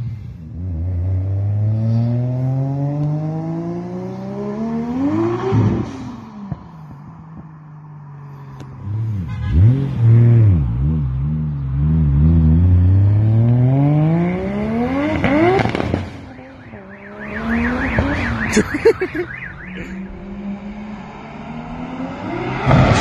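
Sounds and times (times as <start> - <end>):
turbocharged car engine accelerating: 0.4 - 6.5, 8.6 - 23.0.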